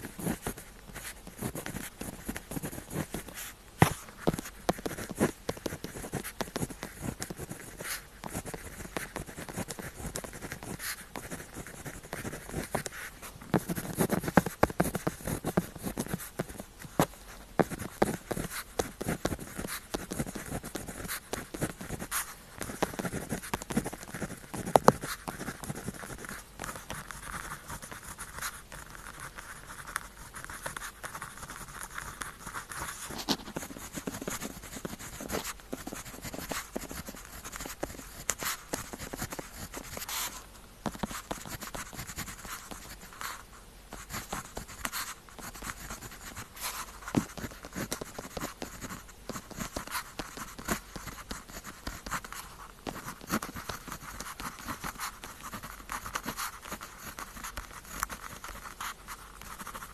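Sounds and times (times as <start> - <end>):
pen scratching on paper: 0.0 - 59.9.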